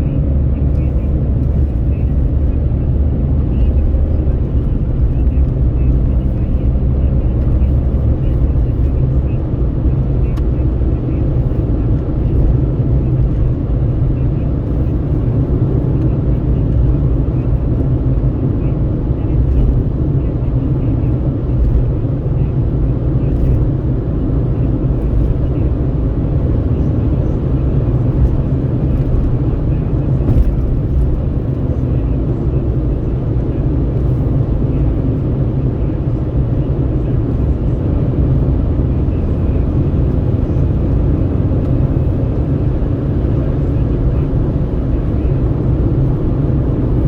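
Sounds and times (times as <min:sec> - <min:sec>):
tyre and engine rumble: 0:00.0 - 0:47.0.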